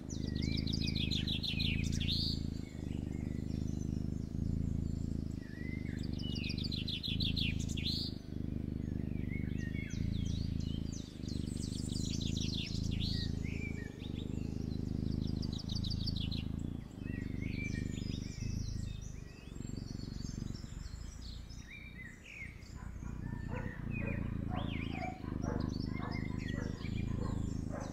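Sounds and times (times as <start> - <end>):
kitten purring: 0.0 - 27.9
birds chirping: 0.1 - 27.9.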